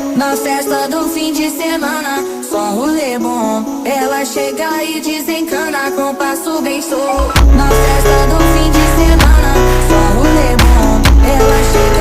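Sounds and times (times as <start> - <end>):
pop song with heavy bass: 0.0 - 12.0.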